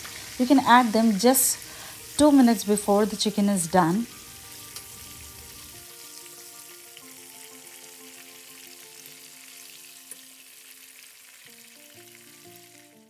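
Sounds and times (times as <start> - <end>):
hot oil sizzling: 0.0 - 13.0
soft background music: 0.0 - 13.0.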